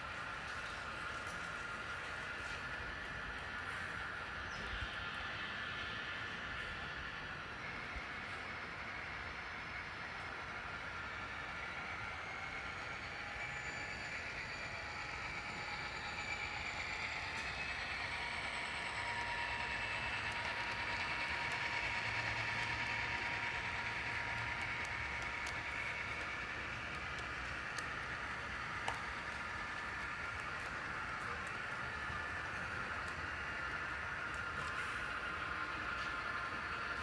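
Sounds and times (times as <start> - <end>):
model train running on track: 0.0 - 37.0.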